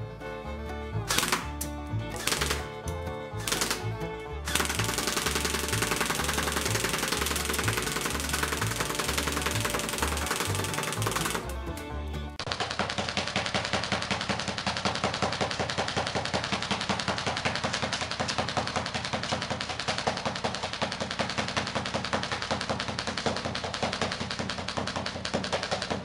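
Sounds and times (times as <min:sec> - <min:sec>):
airsoft rifle automatic fire: 0:01.1 - 0:02.8, 0:03.4 - 0:11.8, 0:12.4 - 0:26.0
pellets hitting wooden door: 0:01.1 - 0:26.0.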